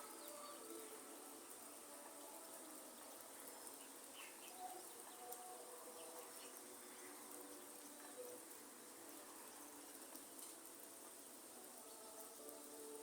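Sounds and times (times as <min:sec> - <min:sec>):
soft rain hiss: 0:00.0 - 0:13.0.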